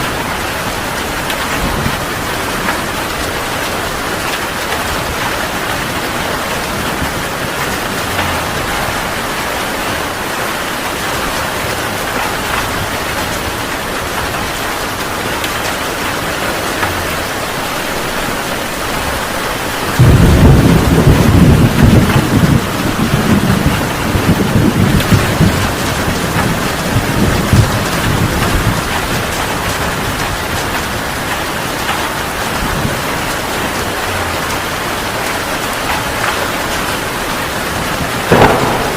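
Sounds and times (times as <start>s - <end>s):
thunder rumbling: 0.0s - 30.6s, 37.6s - 38.9s
heavy rain: 0.0s - 38.9s.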